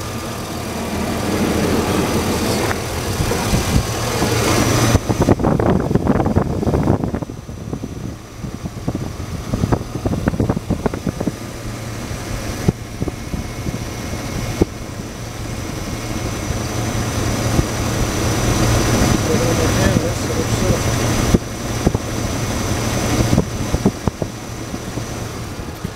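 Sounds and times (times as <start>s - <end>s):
truck engine idling: 0.0s - 25.9s.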